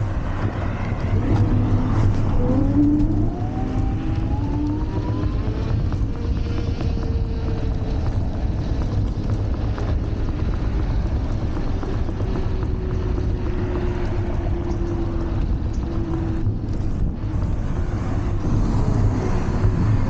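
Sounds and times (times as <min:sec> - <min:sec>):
electric scooter motor whine: 0:00.0 - 0:20.0
wind buffeting microphone: 0:00.0 - 0:20.0.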